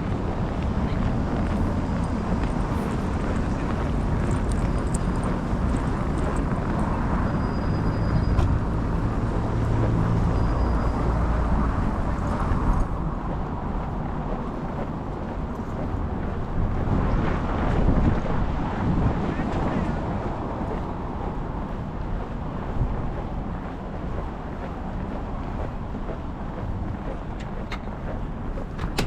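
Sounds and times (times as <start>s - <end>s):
passing traffic: 0.0s - 29.0s
vehicle engine hum: 0.0s - 29.0s
wind rumbling on microphone: 0.0s - 29.0s.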